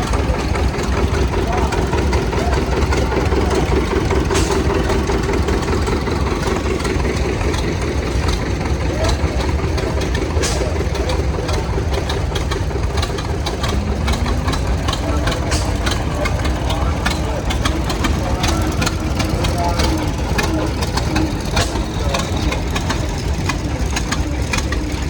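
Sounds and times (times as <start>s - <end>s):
tractor engines running: 0.0s - 25.0s.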